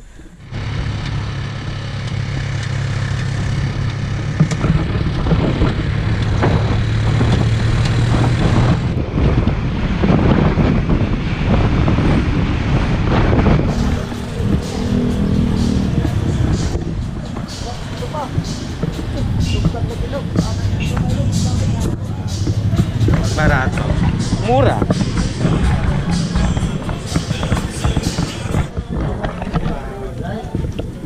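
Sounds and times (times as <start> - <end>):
vehicle engine running: 0.0 - 31.0
wind rushing over microphone: 0.4 - 31.0.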